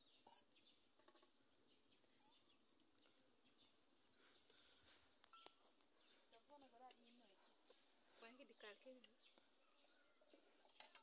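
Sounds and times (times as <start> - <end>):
insect hiss: 0.0 - 11.0.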